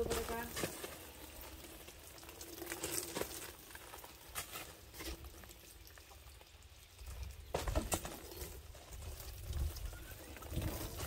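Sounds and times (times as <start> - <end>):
water pouring onto cardboard: 0.0 - 11.0.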